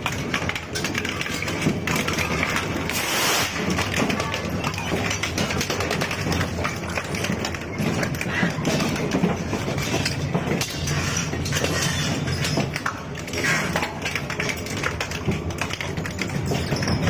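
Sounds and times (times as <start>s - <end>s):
metal and plastic crunching: 0.0s - 17.0s.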